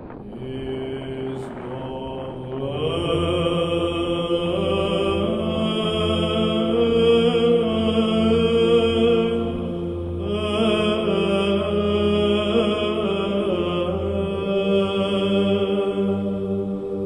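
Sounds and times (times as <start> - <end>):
choir chanting long notes: 0.0 - 17.0
steady low drone: 0.0 - 17.0.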